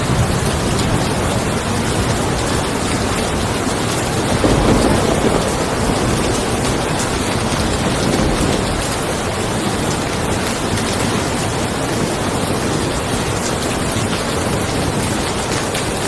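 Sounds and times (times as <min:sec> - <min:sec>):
rain falling on a car: 0:00.0 - 0:16.0.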